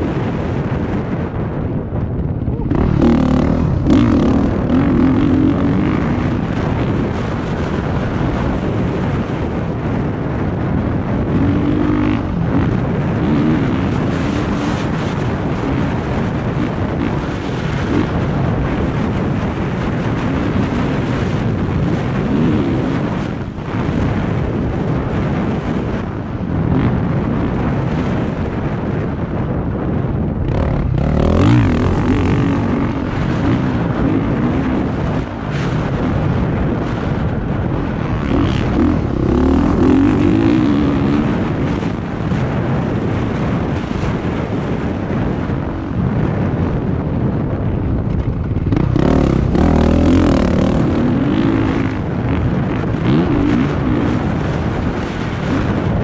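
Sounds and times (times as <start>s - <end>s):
wind buffeting microphone: 0.0s - 56.0s
motorcycle engine revving: 1.9s - 28.8s, 30.3s - 46.7s, 47.5s - 56.0s.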